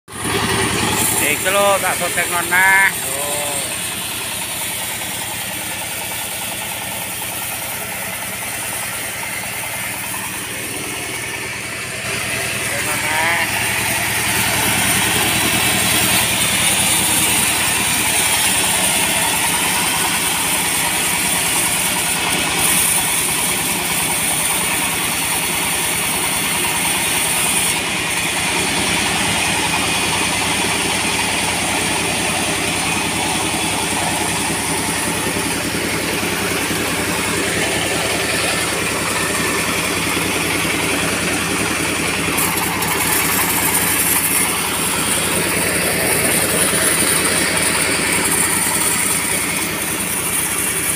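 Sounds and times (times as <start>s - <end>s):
engine-driven wood saw running: 0.1s - 50.9s.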